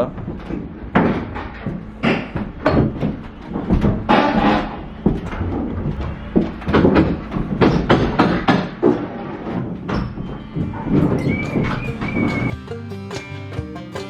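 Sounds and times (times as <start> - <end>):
wooden boards knocking and banging: 0.0 - 12.5.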